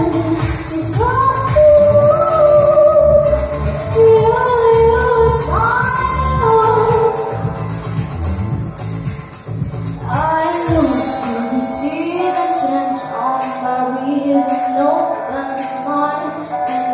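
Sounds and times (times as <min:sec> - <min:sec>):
girl singing into a microphone: 0:00.0 - 0:07.5, 0:10.0 - 0:16.9
backing music with steady beat: 0:00.0 - 0:16.9.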